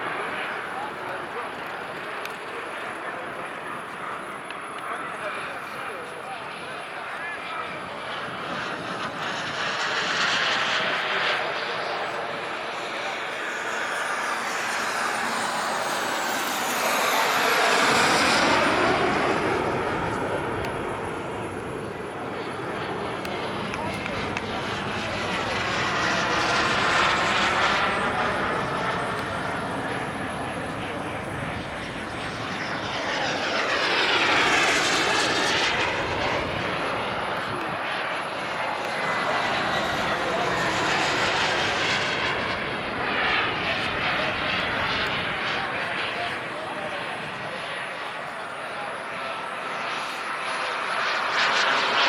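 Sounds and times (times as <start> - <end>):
model jet turbine flying past: 0.0 - 52.0.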